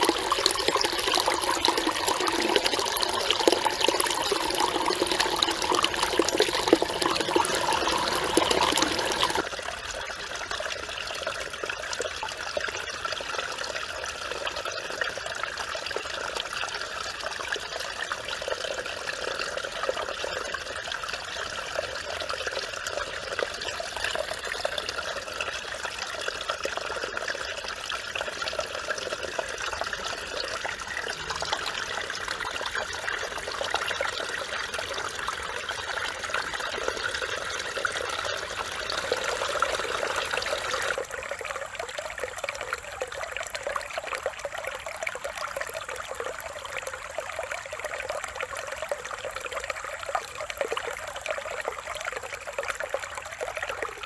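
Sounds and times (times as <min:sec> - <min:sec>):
stream babbling: 0:00.0 - 0:14.7, 0:21.0 - 0:54.0.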